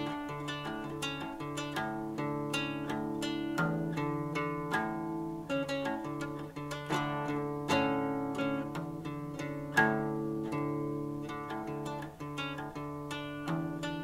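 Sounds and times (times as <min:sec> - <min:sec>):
acoustic guitar picking and strumming: 0:00.0 - 0:14.0.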